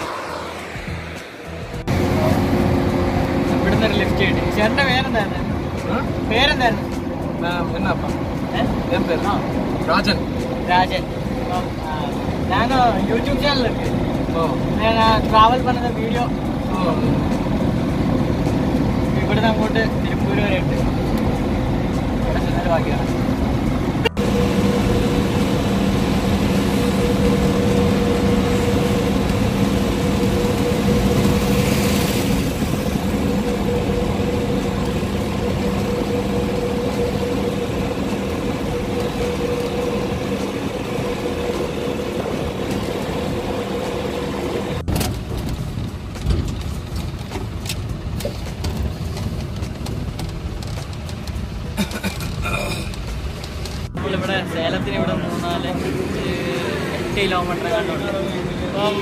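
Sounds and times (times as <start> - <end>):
engine drone: 0.0 - 59.0
road noise inside vehicle: 0.0 - 59.0.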